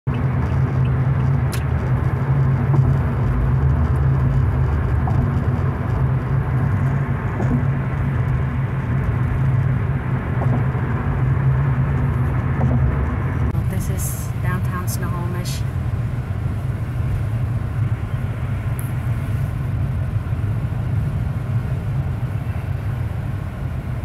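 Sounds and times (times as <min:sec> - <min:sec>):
car cabin road drone: 0:00.0 - 0:24.0
strong low hum: 0:00.1 - 0:24.0.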